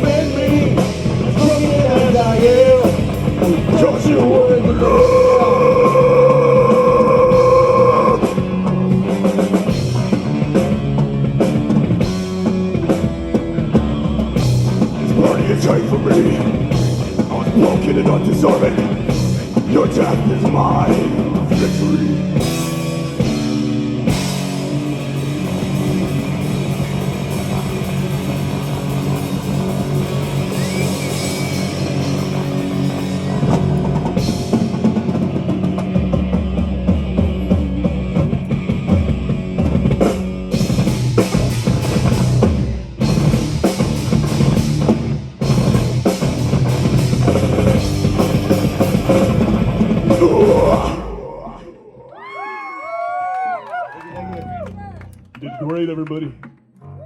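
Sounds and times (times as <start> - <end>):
pounding drum kit: 0.0 - 51.4
distorted guitars: 0.0 - 52.0
bass guitar: 0.0 - 57.0.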